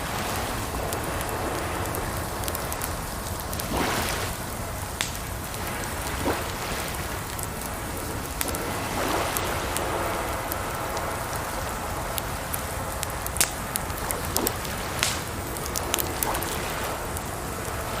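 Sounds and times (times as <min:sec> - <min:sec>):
campfire crackling: 0:00.0 - 0:18.0
running water: 0:00.0 - 0:18.0.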